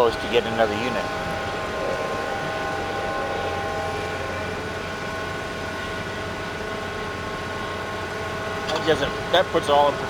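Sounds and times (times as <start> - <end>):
steady machine whine: 0.0 - 9.3
heavy machinery engine rumble: 0.0 - 10.0.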